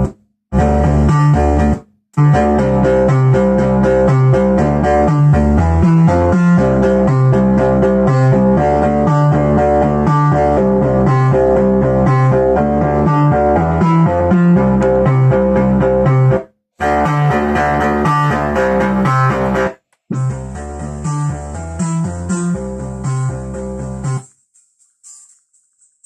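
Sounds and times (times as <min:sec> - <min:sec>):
analog synthesizer music: 0:00.0 - 0:26.0.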